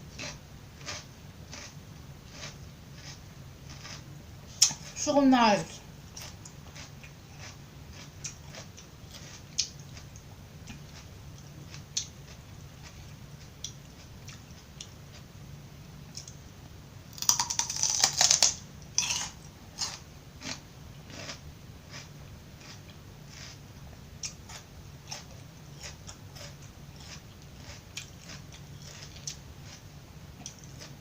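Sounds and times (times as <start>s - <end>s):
chewing crisp raw vegetables: 0.1s - 5.0s, 6.1s - 15.3s, 16.1s - 16.4s, 17.2s - 31.0s.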